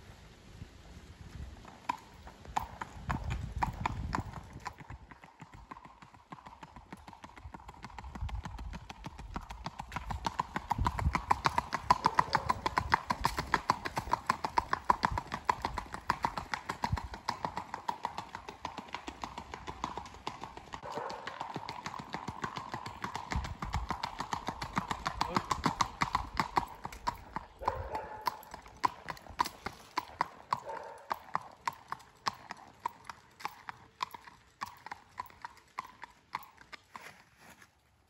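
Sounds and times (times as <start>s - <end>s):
horse hooves clip-clopping on pavement: 0.0s - 38.0s.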